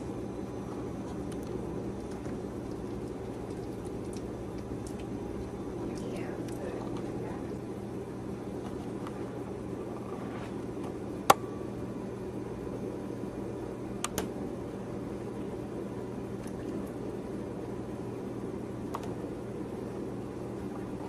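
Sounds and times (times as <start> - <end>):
room hum and hiss: 0.0 - 21.0.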